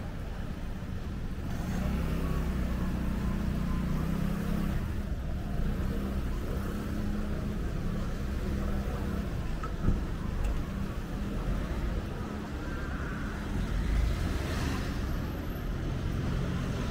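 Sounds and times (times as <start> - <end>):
city street noise: 0.0 - 16.9
vehicle engine humming: 0.0 - 16.9.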